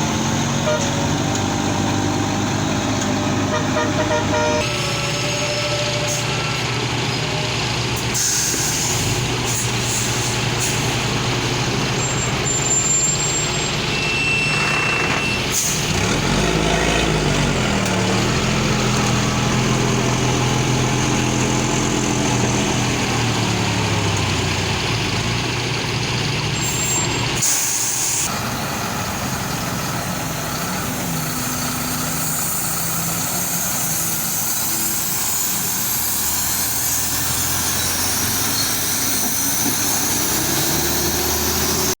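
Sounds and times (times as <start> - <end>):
heavy truck engine running: 0.0 - 42.0.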